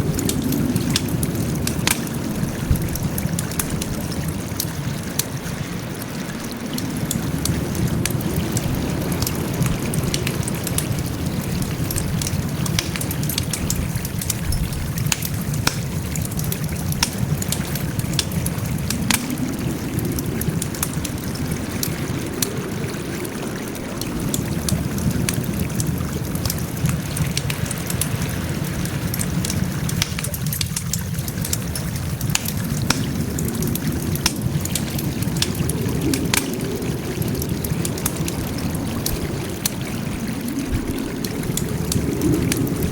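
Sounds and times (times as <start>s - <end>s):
campfire crackling and popping: 0.0s - 42.9s
low rumble of burning: 0.0s - 42.9s.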